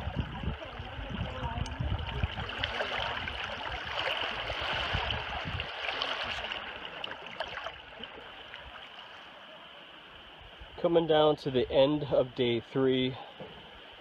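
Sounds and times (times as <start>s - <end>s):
small waves lapping on shore: 0.0s - 14.0s.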